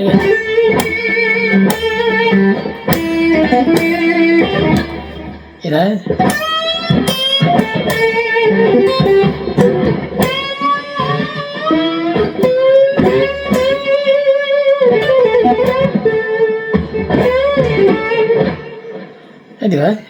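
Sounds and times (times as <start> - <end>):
electric guitar lead lines: 0.0 - 19.6.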